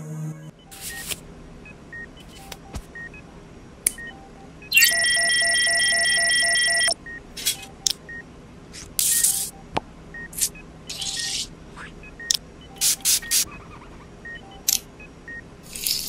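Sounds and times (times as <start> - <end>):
electronic hum with pulsing beeps: 0.4 - 8.3, 9.0 - 16.0
soft electronic beeps: 0.5 - 3.3, 3.9 - 8.3, 9.0 - 16.0.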